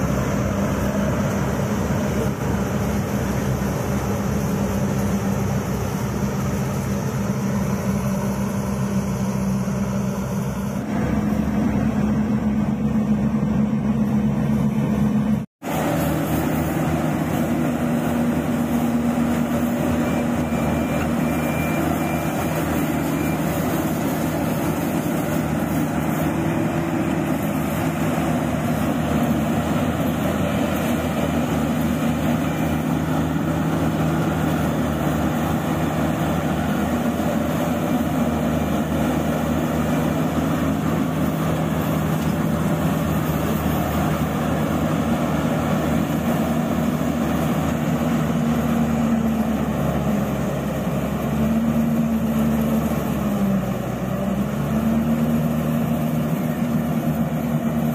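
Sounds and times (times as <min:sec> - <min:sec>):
combine harvester drone: 0:00.0 - 0:57.9.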